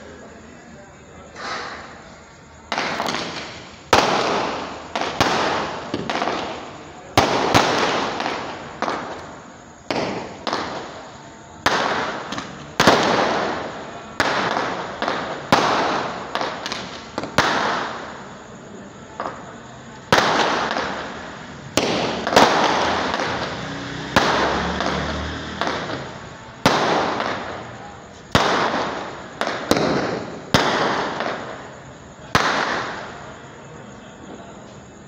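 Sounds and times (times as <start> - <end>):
firework shells bursting: 1.3 - 18.4, 19.2 - 33.4.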